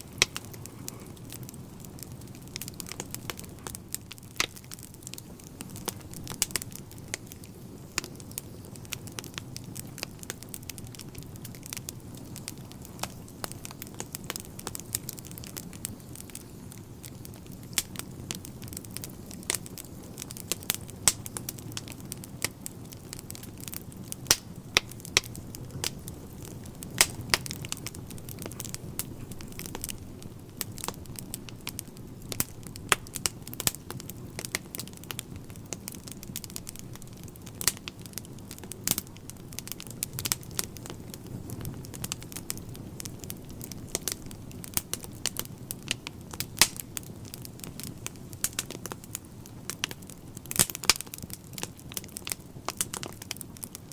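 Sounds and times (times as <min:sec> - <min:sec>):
fire flames rumbling: 0:00.0 - 0:53.9
logs crackling and popping: 0:00.0 - 0:53.9.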